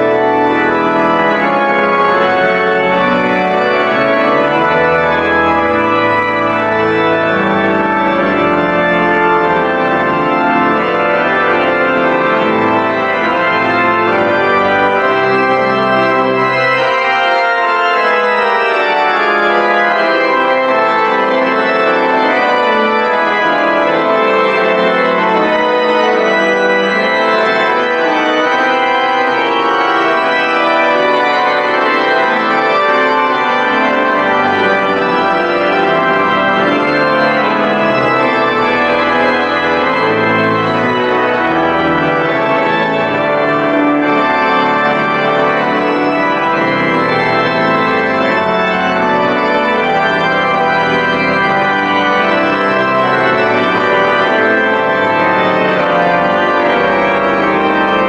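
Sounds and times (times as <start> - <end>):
pipe organ playing loudly: 0.0 - 58.0.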